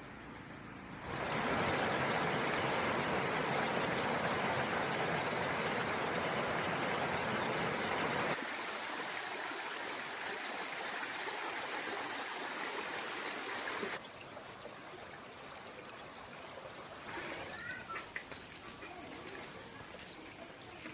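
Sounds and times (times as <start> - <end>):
stream water flowing: 1.0 - 20.9.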